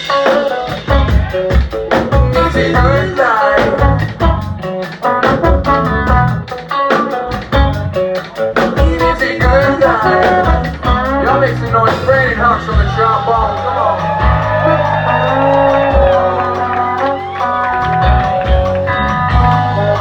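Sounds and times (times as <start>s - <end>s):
drum kit beat: 0.0s - 20.0s
guitar: 0.0s - 20.0s
person singing: 0.1s - 5.8s, 8.0s - 20.0s.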